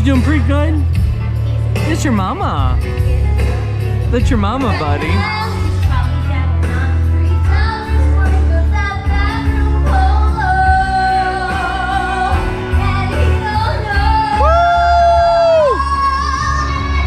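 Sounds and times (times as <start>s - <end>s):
backing track with bass: 0.0s - 17.0s
woman singing karaoke: 2.8s - 17.0s.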